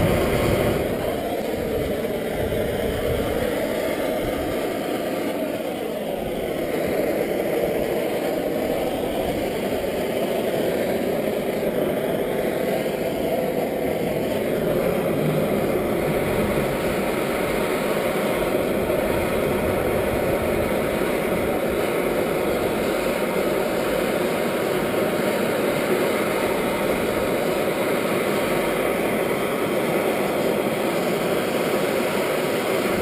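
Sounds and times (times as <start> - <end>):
gas torch flame rushing: 0.0 - 33.0.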